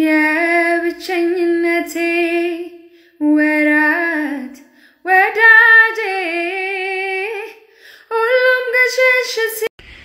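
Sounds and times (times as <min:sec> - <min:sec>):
woman singing unaccompanied: 0:00.0 - 0:09.7.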